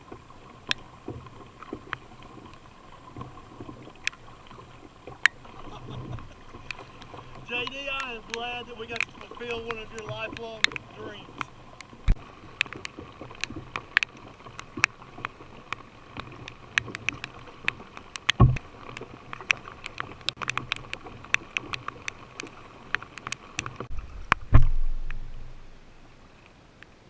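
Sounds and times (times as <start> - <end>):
paddle taps and water drips: 0.0 - 27.0.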